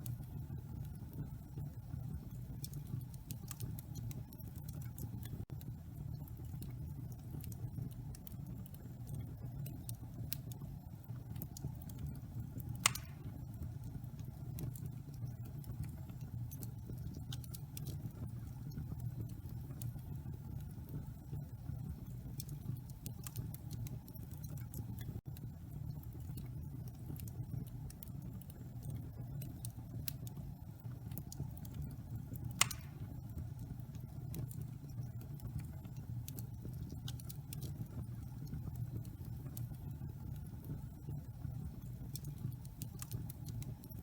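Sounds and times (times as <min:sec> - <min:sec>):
wood fire crackling: 0:00.0 - 0:44.0
fire flames rumbling: 0:00.6 - 0:44.0.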